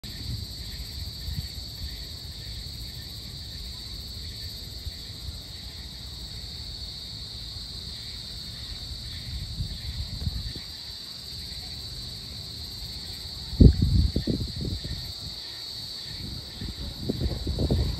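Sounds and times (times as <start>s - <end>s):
crickets and insects chirping: 0.0s - 17.9s.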